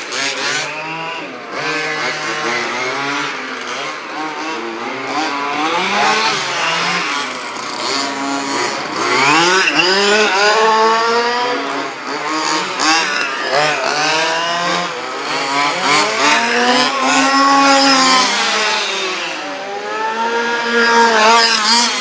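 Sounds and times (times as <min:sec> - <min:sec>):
model buggy engines revving: 0:00.0 - 0:22.0.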